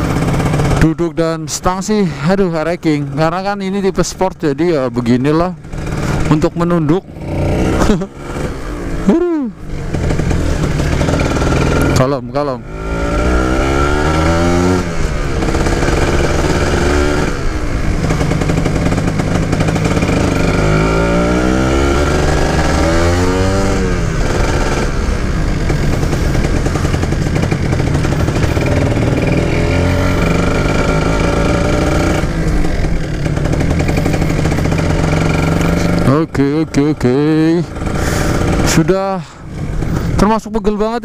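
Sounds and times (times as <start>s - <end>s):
motorcycle engine revving: 0.0s - 41.0s
wind and road noise: 0.0s - 41.0s.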